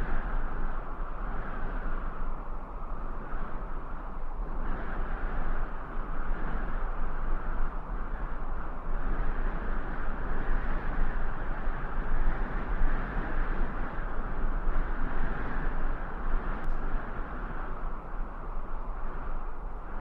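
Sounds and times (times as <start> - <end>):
rushing noise with low rumble: 0.0 - 20.0.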